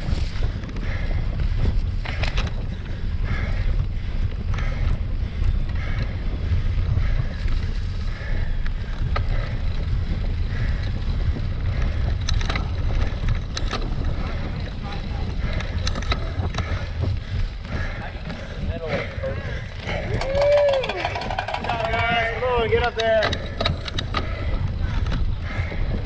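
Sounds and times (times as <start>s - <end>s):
sharp bike clicks: 0.0s - 26.0s
wind rumbling on microphone: 0.0s - 26.0s.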